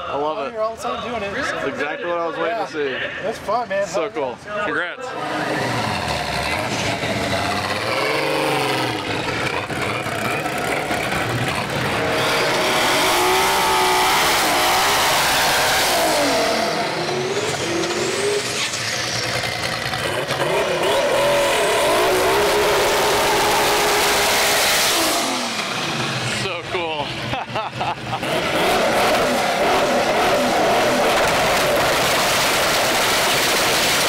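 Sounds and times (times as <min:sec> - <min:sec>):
high turbo whine: 0:05.1 - 0:27.4, 0:28.0 - 0:34.0
car engines revving: 0:05.1 - 0:34.0.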